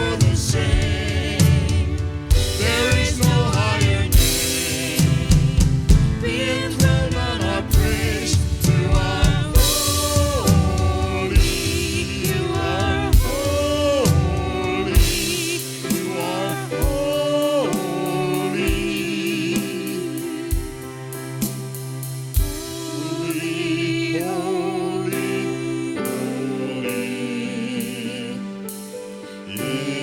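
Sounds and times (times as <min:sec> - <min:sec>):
voices singing held notes: 0:00.0 - 0:21.4, 0:22.4 - 0:30.0
band with drums and cymbals: 0:00.0 - 0:30.0.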